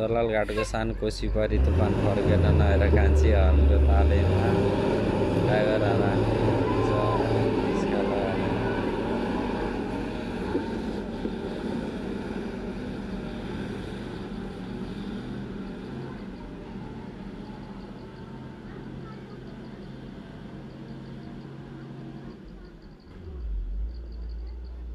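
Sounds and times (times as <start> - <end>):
bus engine labouring uphill: 0.0 - 24.9.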